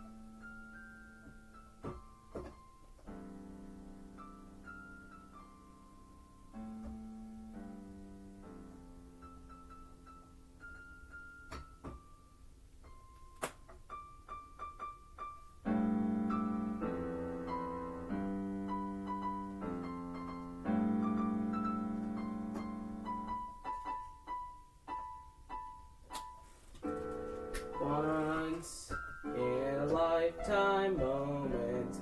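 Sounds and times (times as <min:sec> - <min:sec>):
piano notes and chords: 0:00.0 - 0:32.0.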